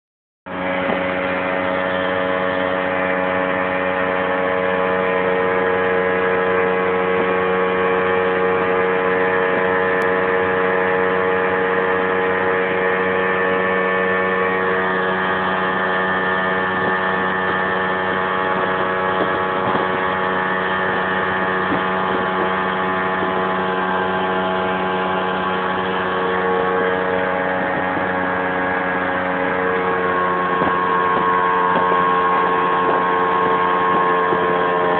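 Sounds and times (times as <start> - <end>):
outboard motor running: 0.5 - 34.9.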